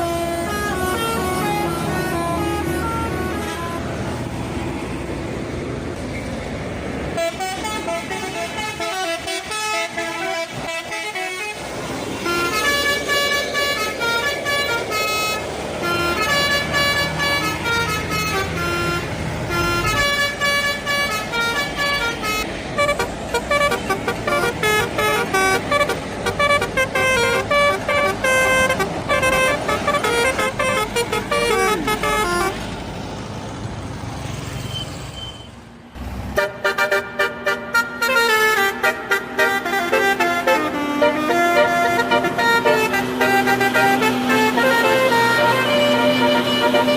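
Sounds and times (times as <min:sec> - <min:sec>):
bus horns playing melodic notes: 0:00.0 - 0:04.6, 0:07.1 - 0:32.8, 0:36.2 - 0:46.9
bus engines running: 0:00.0 - 0:46.9.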